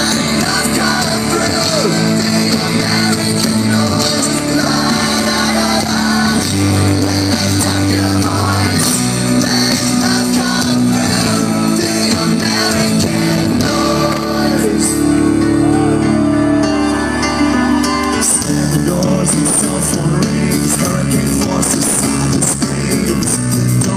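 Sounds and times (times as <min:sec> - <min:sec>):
rock band playing live: 0:00.0 - 0:23.9.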